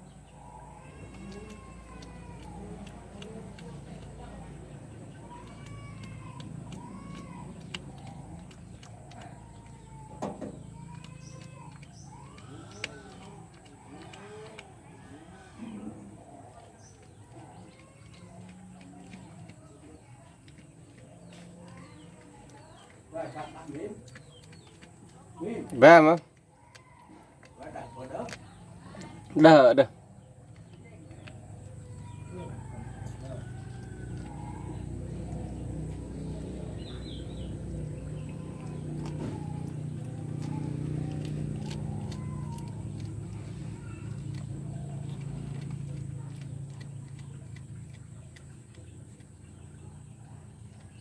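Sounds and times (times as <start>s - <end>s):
low mechanical hum: 0.0s - 27.4s, 29.9s - 51.0s
animal chewing crunches: 0.0s - 51.0s.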